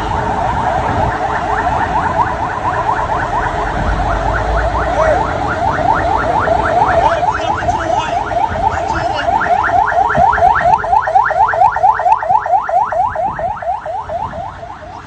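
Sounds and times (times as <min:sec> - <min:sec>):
electronic siren yelping: 0:00.0 - 0:15.0.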